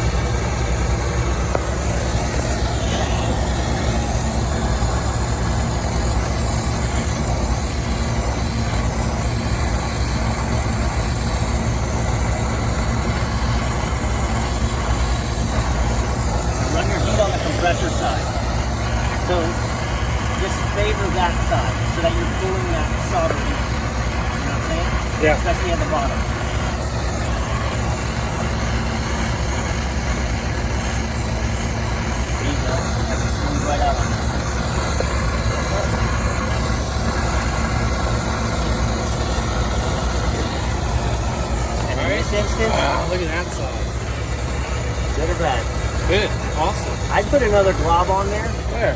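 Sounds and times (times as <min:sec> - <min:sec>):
low machinery hum: 0:00.0 - 0:48.9
torch flame roaring: 0:00.0 - 0:48.9.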